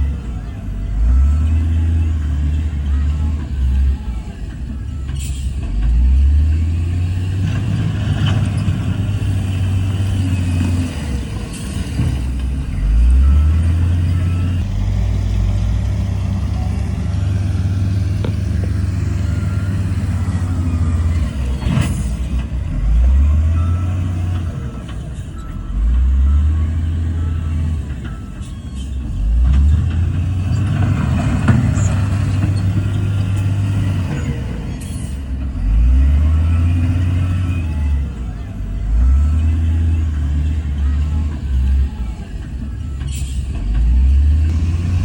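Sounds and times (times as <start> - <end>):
heavy diesel engine revving: 0.0 - 45.0.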